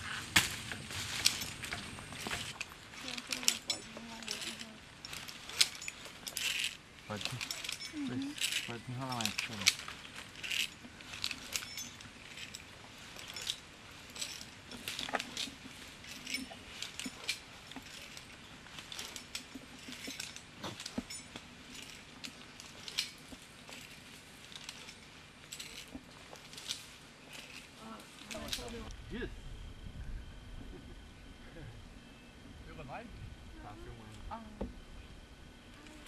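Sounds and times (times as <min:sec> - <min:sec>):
climbing hardware clinking: 0:00.0 - 0:28.9.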